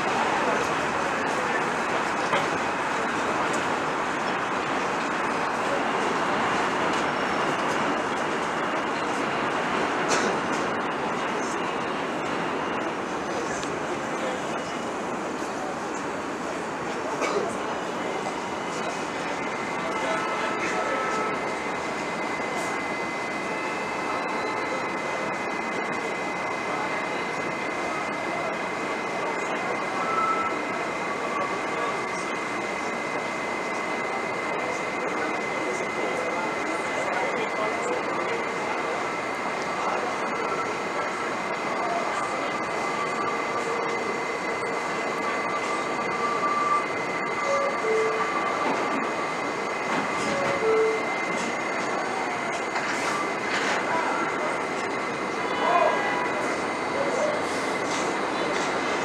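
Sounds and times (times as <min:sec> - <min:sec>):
subway train rushing: 0:00.0 - 0:59.0.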